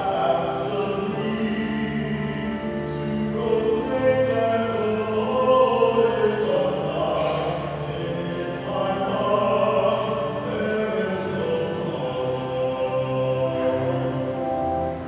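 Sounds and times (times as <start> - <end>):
choir singing liturgical chant: 0.0 - 14.2
low instrumental accompaniment: 0.0 - 15.0.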